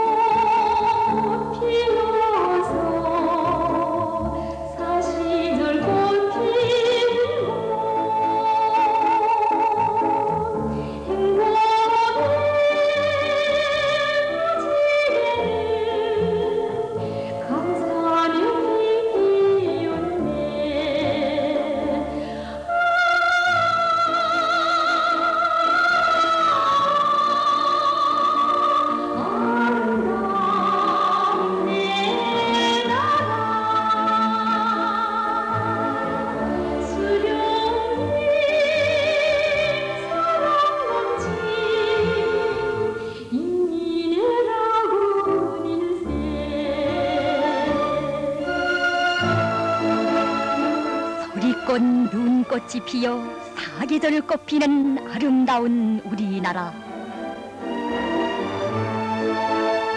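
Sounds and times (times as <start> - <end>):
person singing with vibrato: 0.0 - 57.2
orchestral film music: 0.0 - 59.9.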